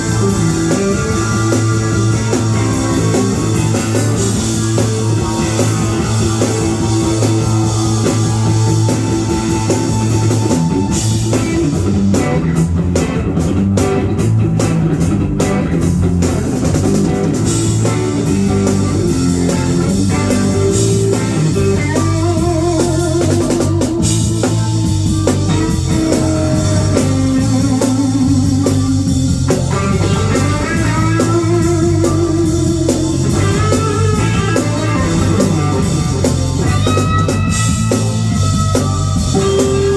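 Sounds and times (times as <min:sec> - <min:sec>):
bass line: 0:00.0 - 0:39.9
drum kit: 0:00.0 - 0:39.9
electric guitar: 0:00.0 - 0:39.9.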